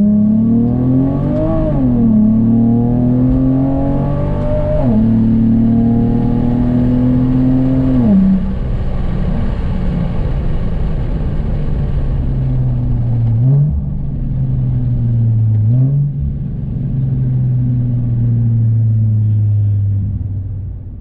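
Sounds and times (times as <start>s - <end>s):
car engine and exhaust: 0.0s - 21.0s.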